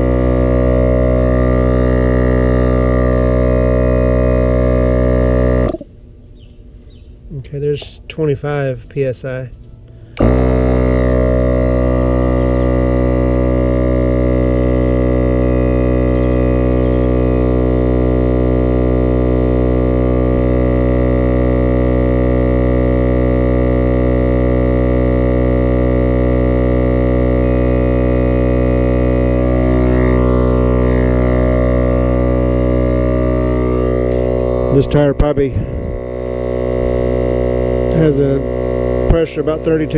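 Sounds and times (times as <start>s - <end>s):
air compressor motor hum: 0.0s - 8.5s, 9.8s - 39.9s.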